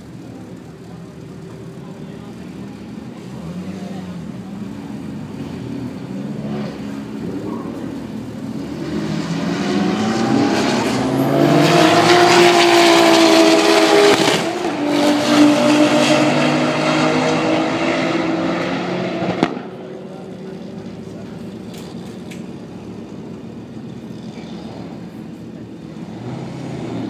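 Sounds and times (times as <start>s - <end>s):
cars accelerating at full throttle: 0.0s - 27.0s.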